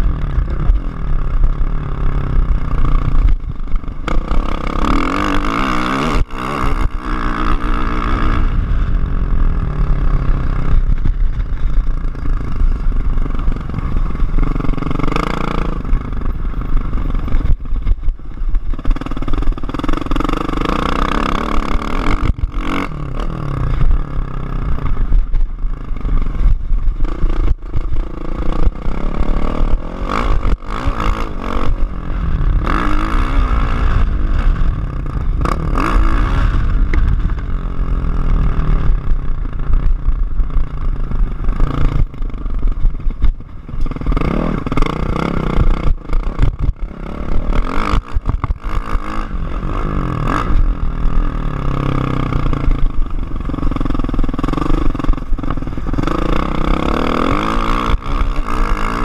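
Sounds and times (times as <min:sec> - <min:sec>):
knocks and rattles from bike: 0:00.0 - 0:59.0
motorcycle engine revving: 0:00.0 - 0:59.0.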